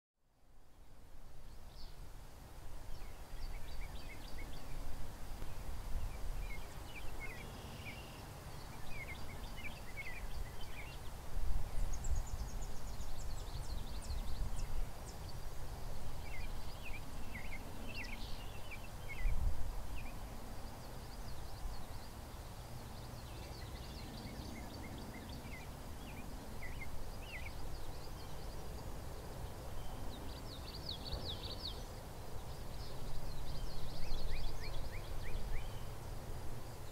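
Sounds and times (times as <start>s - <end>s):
wind rumbling on microphone: 0.8s - 36.9s
small birds chirping: 2.8s - 36.9s.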